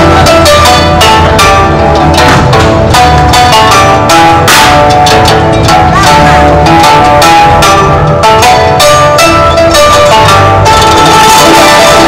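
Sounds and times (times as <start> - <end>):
low bass: 0.0 - 12.0
plucked zither melody: 0.0 - 12.0.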